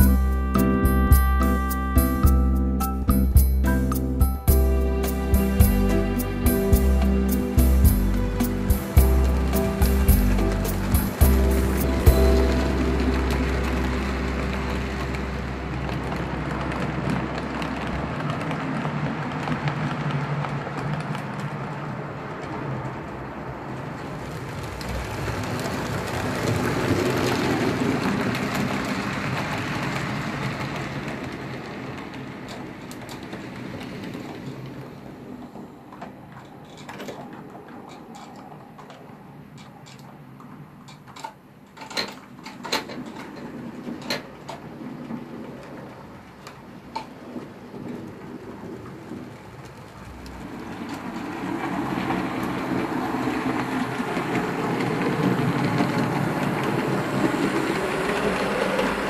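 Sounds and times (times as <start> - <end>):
model trains rumbling on track: 0.0 - 59.0.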